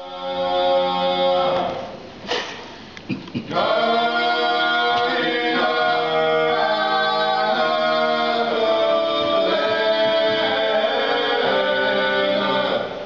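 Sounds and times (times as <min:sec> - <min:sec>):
male vocal trio singing: 0:00.0 - 0:02.0, 0:03.4 - 0:13.0.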